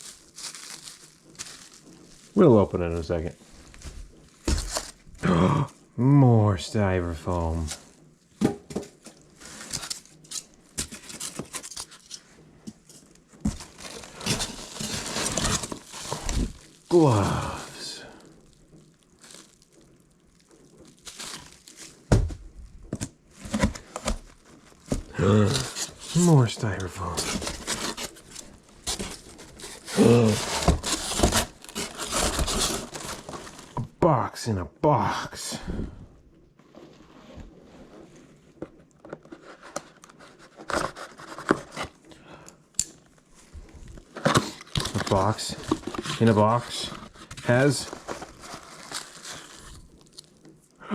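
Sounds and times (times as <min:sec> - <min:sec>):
styrofoam and cardboard scraping: 0:00.0 - 0:05.1, 0:08.9 - 0:33.8, 0:36.7 - 0:42.1, 0:43.5 - 0:50.4.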